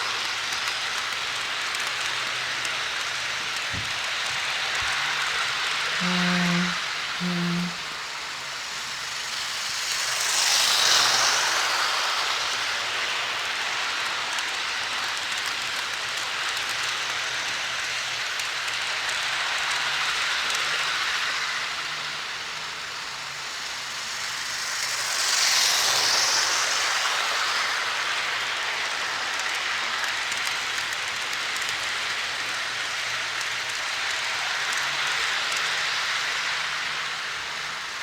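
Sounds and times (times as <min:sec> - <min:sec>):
model train rattling on track: 0:00.0 - 0:38.0.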